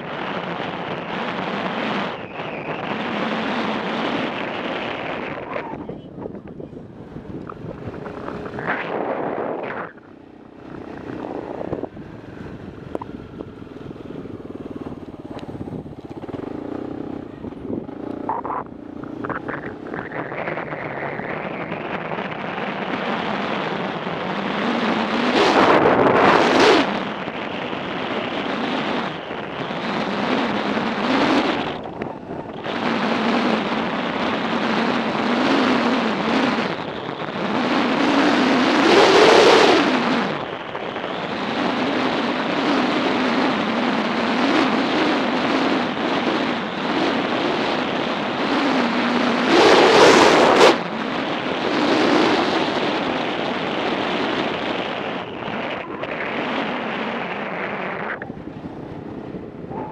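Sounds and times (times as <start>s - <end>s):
motorcycle engine: 0.0s - 59.9s
wind buffeting microphone: 0.0s - 59.9s.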